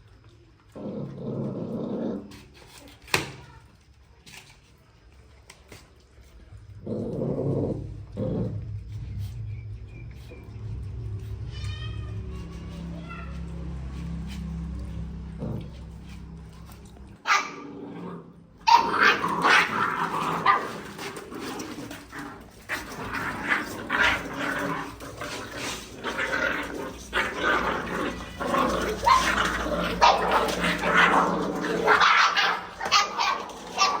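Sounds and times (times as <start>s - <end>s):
puppies yapping and growling: 5.7s - 17.7s, 18.5s - 34.0s.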